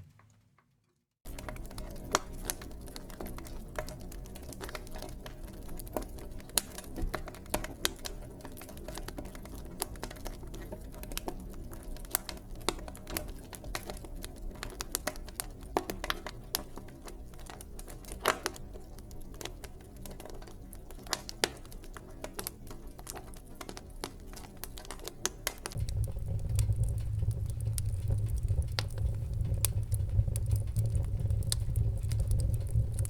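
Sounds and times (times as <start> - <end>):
wood fire crackling: 1.3 - 33.0.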